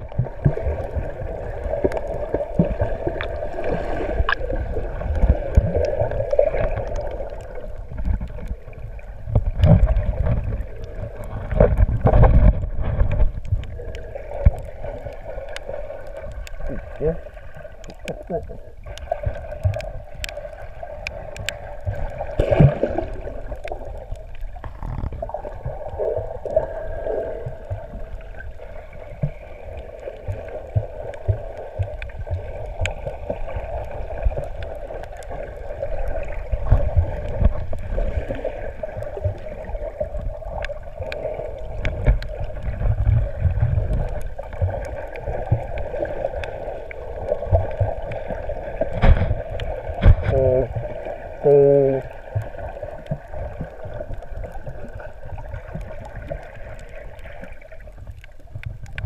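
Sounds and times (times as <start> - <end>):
underwater water rumble: 0.0 - 59.0.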